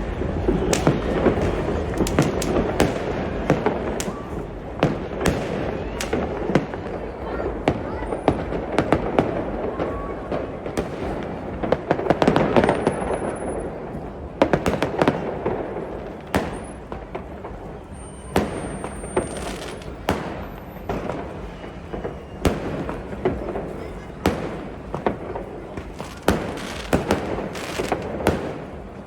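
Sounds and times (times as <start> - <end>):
fireworks crackling and banging: 0.0 - 29.0
fireworks whistling: 0.0 - 29.0.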